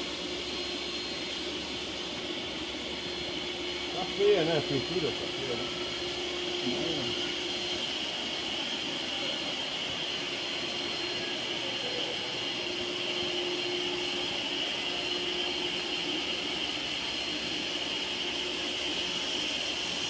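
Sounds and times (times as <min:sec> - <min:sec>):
machine whir with hiss: 0:00.0 - 0:20.0.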